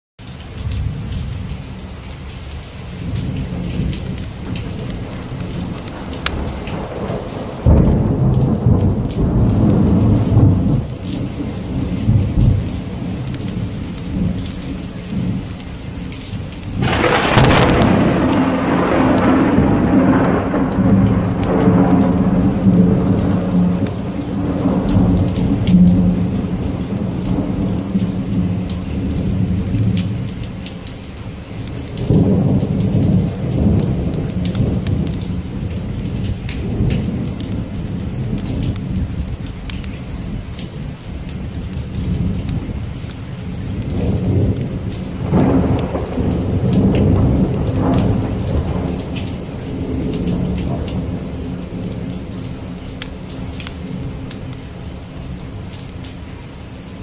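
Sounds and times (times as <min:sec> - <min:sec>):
steady rain falling: 0:00.2 - 0:57.0
rolling thunder: 0:03.0 - 0:15.4, 0:16.7 - 0:30.3, 0:31.7 - 0:40.4, 0:41.4 - 0:54.2.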